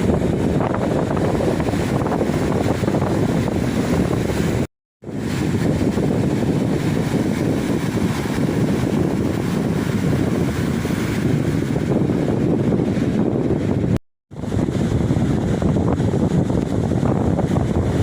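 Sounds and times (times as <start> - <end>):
ocean surf washing on shore: 0.0 - 18.0
wind buffeting microphone: 0.0 - 18.0.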